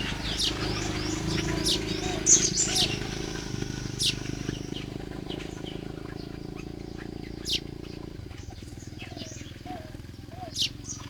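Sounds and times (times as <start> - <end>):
low buzzing drone: 0.0 - 9.6
birds chirping: 0.0 - 11.0.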